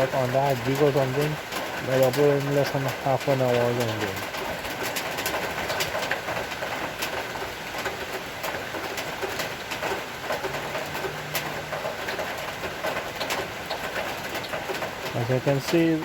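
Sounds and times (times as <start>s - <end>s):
rain hissing: 0.0s - 16.0s
sharp drip clicks: 0.0s - 16.0s.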